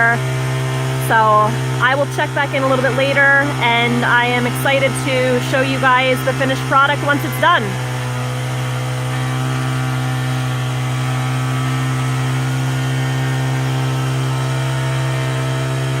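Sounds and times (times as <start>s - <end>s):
engine droning steadily: 0.0s - 16.0s.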